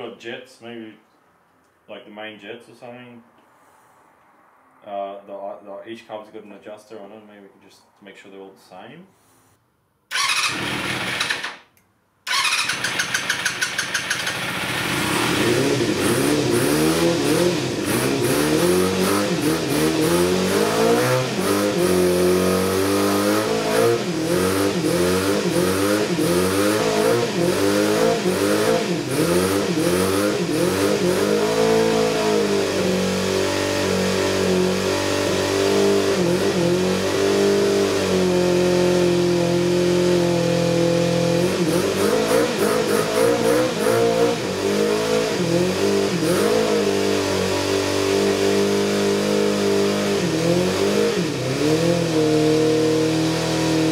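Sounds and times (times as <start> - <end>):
motorcycle engine revving: 10.1 - 11.6, 12.3 - 53.9.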